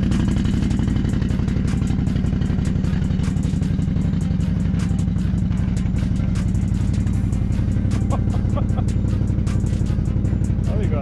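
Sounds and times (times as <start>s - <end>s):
atv engine under load: 0.0s - 11.0s.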